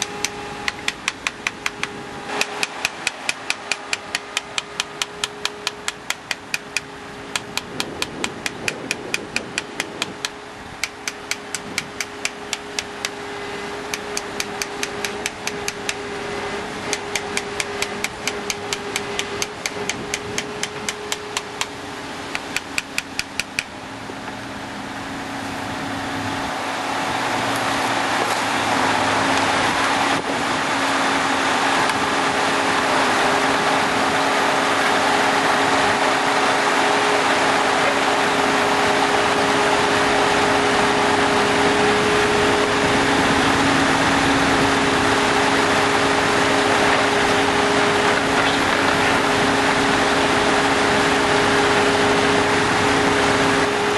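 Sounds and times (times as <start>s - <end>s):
steady engine hum: 0.0s - 53.9s.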